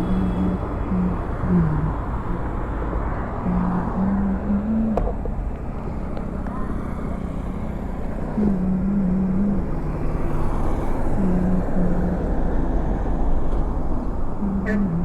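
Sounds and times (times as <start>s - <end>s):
traffic rumble: 0.0s - 15.0s
vehicles passing: 0.0s - 15.0s.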